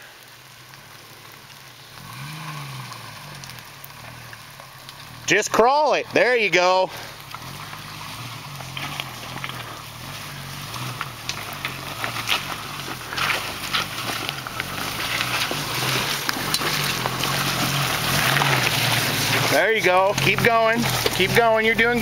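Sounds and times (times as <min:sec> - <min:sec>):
tyres crunching over ground: 0:00.0 - 0:22.0
vehicle engine running low: 0:00.0 - 0:22.0.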